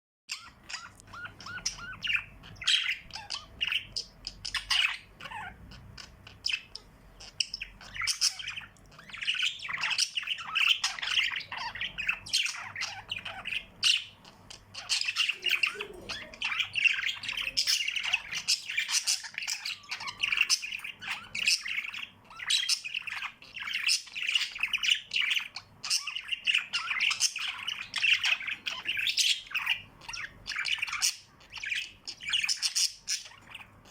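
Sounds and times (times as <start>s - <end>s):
pet birds chirping: 0.3s - 33.9s.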